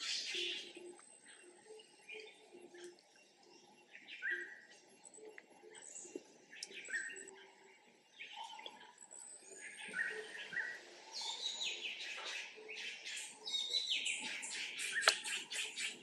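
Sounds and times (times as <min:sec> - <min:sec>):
birds chirping: 0:00.0 - 0:16.0
rapid repeated bird chirps: 0:00.0 - 0:16.0.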